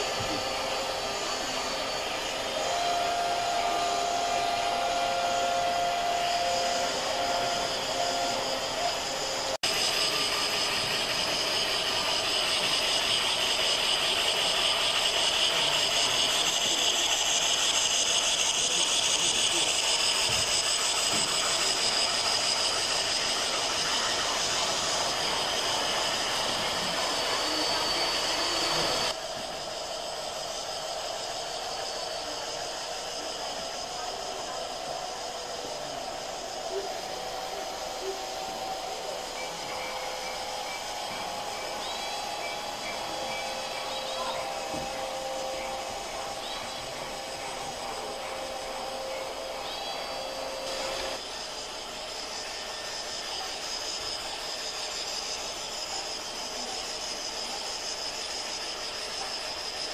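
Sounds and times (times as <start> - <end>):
faint steady whine: 0.0 - 59.9
model steam train hissing: 0.0 - 59.9.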